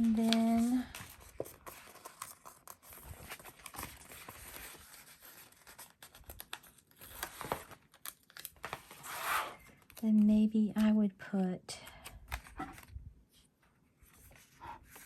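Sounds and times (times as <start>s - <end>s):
paper rustling and crinkling: 0.0s - 10.0s, 12.2s - 15.0s.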